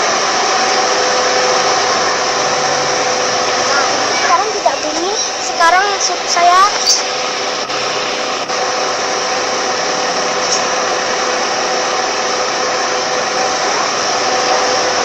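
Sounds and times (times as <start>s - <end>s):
blower fan air rush: 0.0s - 15.0s
fan hum: 0.0s - 15.0s.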